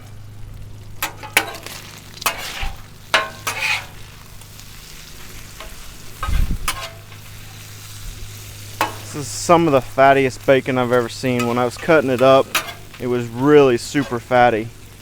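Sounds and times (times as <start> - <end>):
bacon sizzling on a griddle: 0.0 - 15.0
spatula scraping and tapping griddle: 1.0 - 7.9, 8.6 - 14.6.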